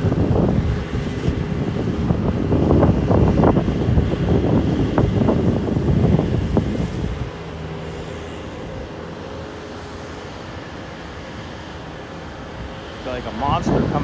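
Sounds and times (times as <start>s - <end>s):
diesel engine running: 0.0s - 14.0s
wind buffeting microphone: 0.0s - 14.0s.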